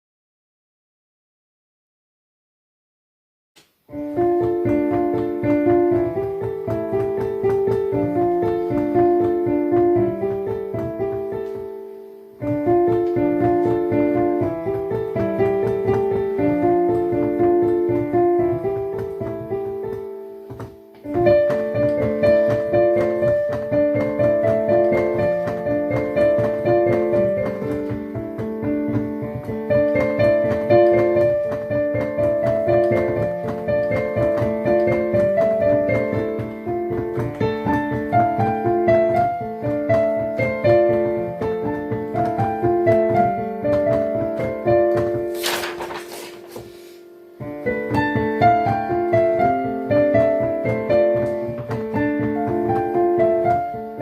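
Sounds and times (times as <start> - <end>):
piano melody: 3.8 - 54.0.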